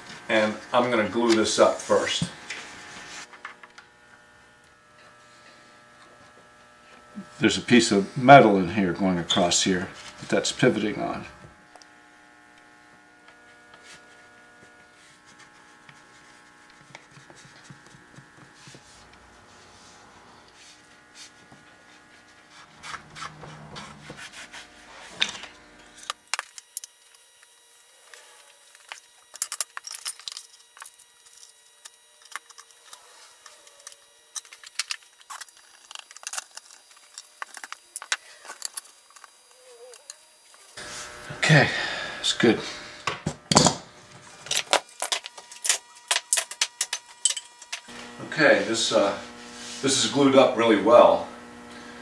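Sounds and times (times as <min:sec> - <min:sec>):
faint workshop hum: 0:00.0 - 0:52.0.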